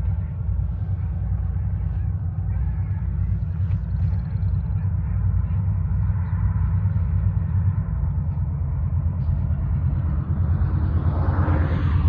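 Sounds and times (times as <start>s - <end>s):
distant diesel locomotive rumble: 0.0s - 12.0s.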